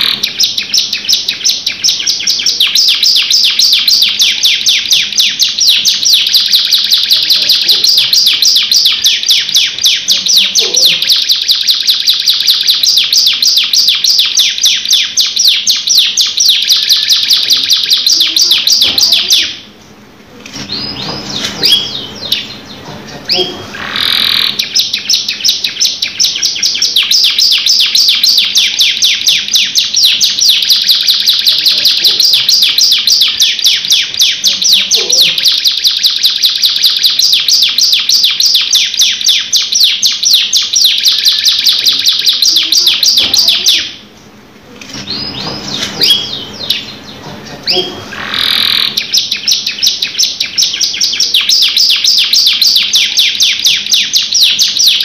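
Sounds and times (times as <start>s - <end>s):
canary singing trills: 0.0s - 19.8s, 20.5s - 55.0s.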